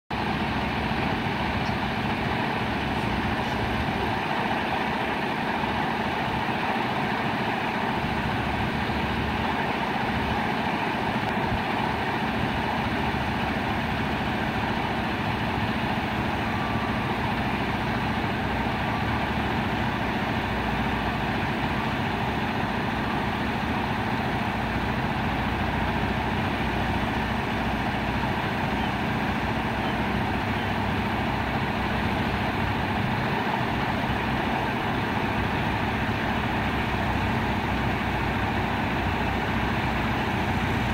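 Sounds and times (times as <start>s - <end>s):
diesel truck engine running: 0.1s - 40.9s.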